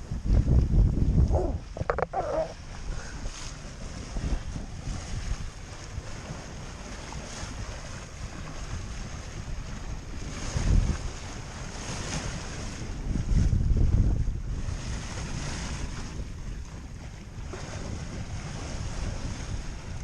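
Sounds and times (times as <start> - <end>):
water washing along hull: 0.0 - 20.0
wind buffeting microphone: 0.0 - 20.0.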